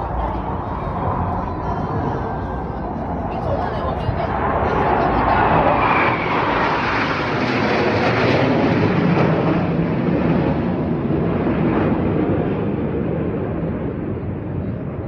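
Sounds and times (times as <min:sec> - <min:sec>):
jets flying past: 0:00.0 - 0:14.4.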